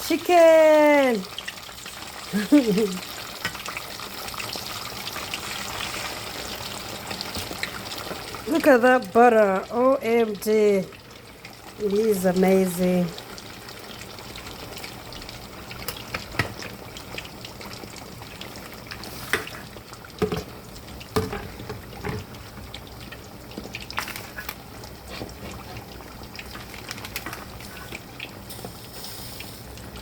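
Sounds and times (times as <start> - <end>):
chicken sizzling in a pan: 0.0 - 30.0.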